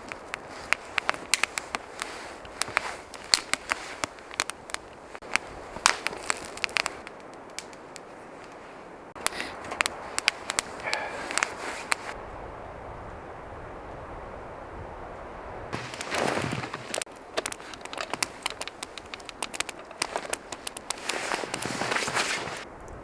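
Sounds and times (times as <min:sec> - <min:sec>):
sharp crackling and clicking: 0:00.0 - 0:12.2, 0:15.8 - 0:23.0.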